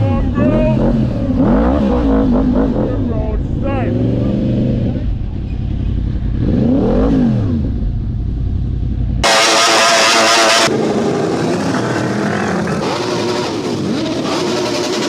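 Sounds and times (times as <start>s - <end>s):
loud high-revving engine: 0.0s - 8.3s, 9.2s - 15.0s
motorcycle engines running: 0.0s - 15.0s.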